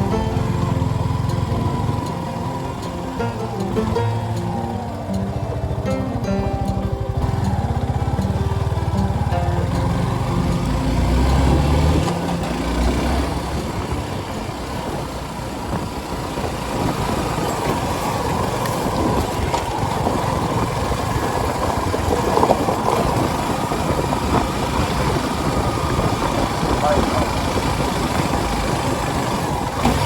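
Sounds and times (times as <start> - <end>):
motorcycle engine rumble: 0.0 - 30.0
wind and road noise: 0.0 - 30.0.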